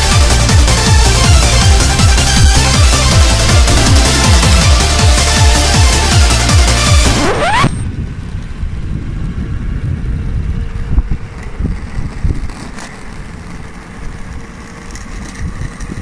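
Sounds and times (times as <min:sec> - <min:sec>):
skateboard wheels rumbling on asphalt: 0:00.0 - 0:16.0.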